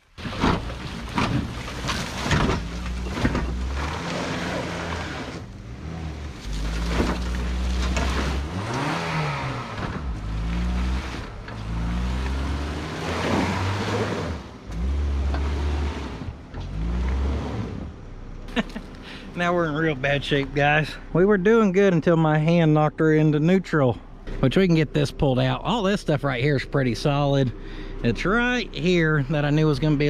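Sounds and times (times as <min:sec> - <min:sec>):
vehicle engine revving: 0:00.1 - 0:30.0.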